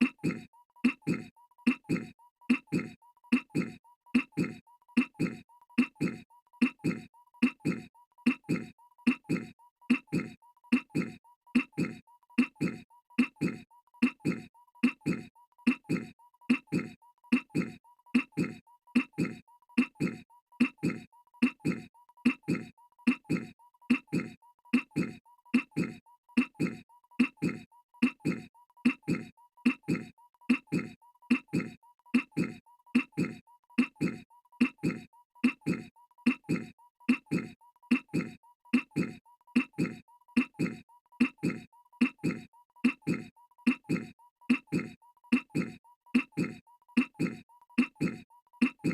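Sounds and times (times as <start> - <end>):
cartoon voice clearing throat: 0.0 - 48.9.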